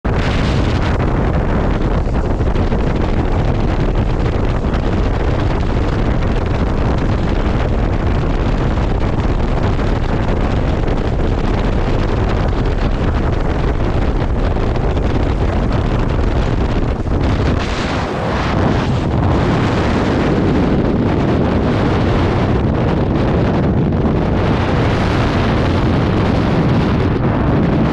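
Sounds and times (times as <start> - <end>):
aircraft engine noise: 0.0 - 27.9
wind buffeting microphone: 0.0 - 27.9.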